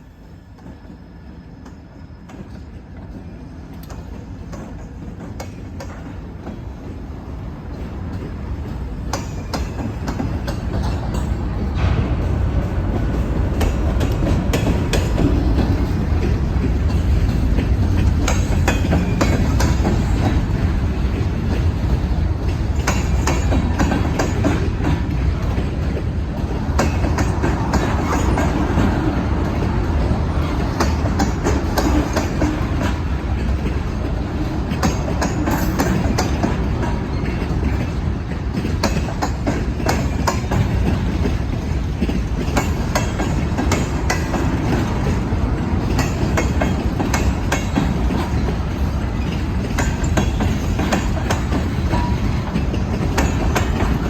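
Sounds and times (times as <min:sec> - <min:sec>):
train cars rumbling past: 0:00.0 - 0:54.0
wheels clicking over rail joints: 0:07.6 - 0:54.0.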